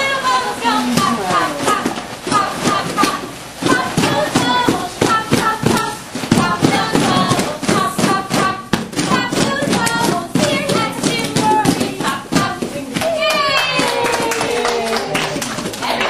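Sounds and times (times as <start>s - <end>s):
voices: 0.0s - 16.0s
hands tapping and patting: 1.7s - 14.6s.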